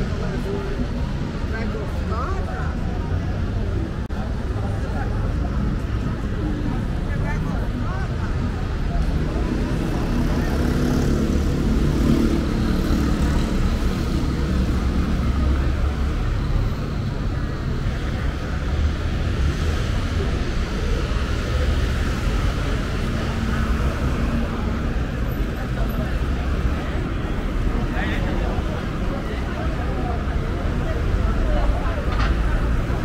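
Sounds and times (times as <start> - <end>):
low traffic rumble: 0.0 - 33.0
people's voices: 0.0 - 33.0.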